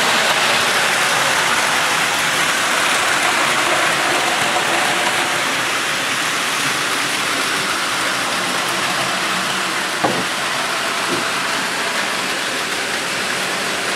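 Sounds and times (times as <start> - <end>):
toy trains running on plastic track: 0.0 - 13.9.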